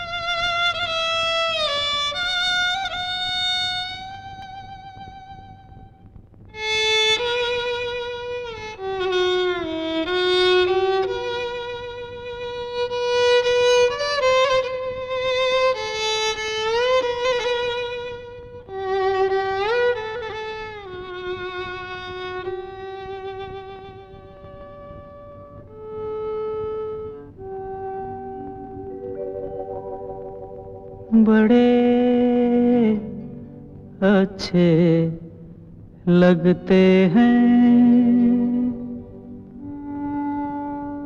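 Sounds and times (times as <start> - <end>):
solo violin melody: 0.0 - 35.2.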